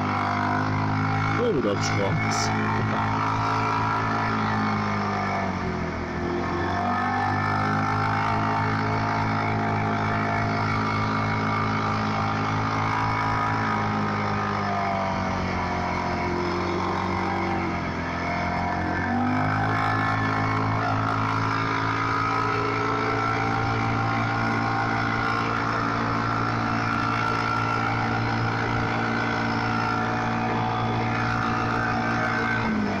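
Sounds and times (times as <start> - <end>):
quad engine running: 0.0 - 33.0.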